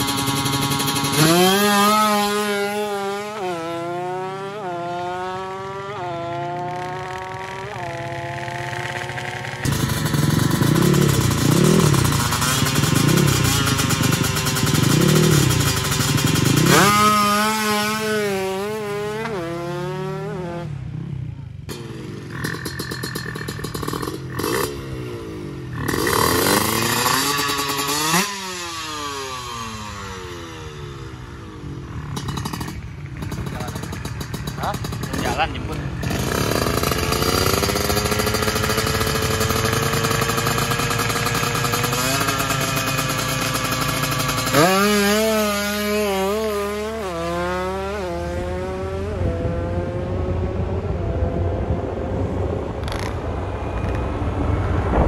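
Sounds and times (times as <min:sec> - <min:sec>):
motorcycle engine at full throttle: 0:00.0 - 0:55.0
motorcycle engine revving: 0:00.0 - 0:55.0.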